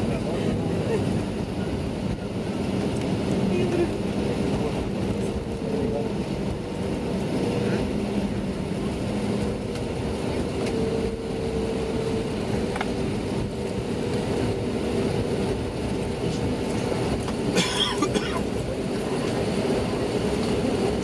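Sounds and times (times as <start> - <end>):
airflow and engine rush in cabin: 0.0 - 21.0.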